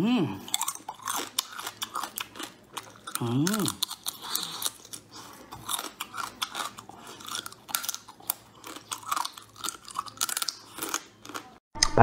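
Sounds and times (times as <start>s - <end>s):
crab shells crunching while chewing: 0.4s - 11.6s.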